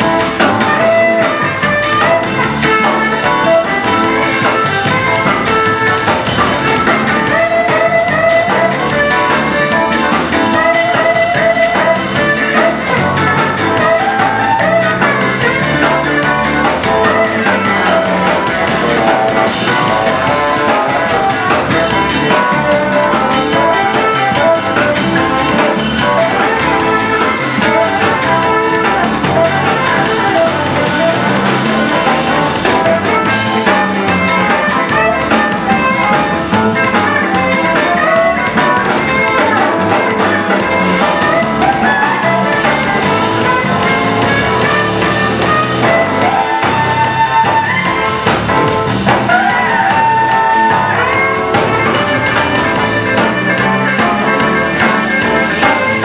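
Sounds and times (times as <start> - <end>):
drum kit beat: 0.0 - 56.0
electric bass: 0.0 - 56.0
electric guitar: 0.0 - 56.0
tenor saxophone: 0.0 - 56.0.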